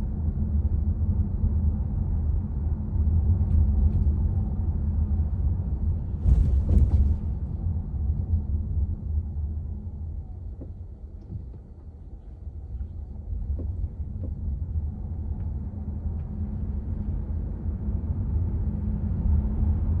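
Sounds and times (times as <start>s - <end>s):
low rumble in car cabin: 0.0s - 20.0s.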